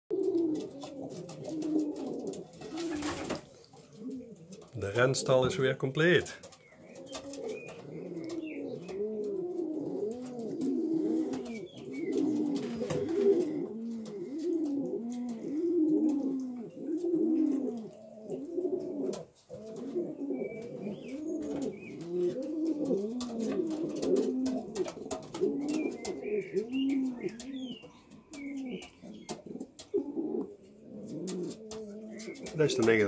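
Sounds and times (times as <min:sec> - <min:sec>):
pigeons cooing: 0:00.1 - 0:33.0.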